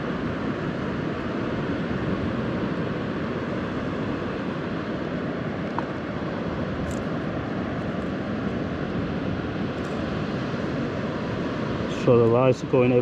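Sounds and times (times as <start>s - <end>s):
surf breaking on a beach: 0.0s - 13.0s.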